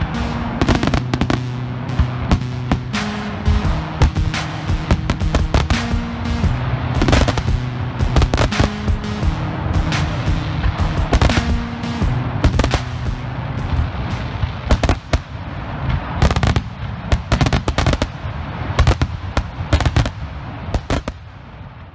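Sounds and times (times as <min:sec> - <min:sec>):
firework bangs: 0:00.0 - 0:21.9
firework crackling: 0:00.0 - 0:21.9.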